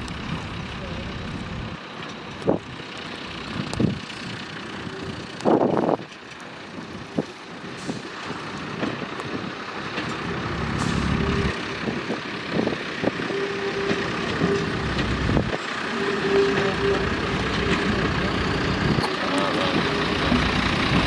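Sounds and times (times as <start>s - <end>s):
low rumbles: 0.0s - 6.0s, 8.6s - 21.0s
train rushing noise: 0.0s - 21.0s.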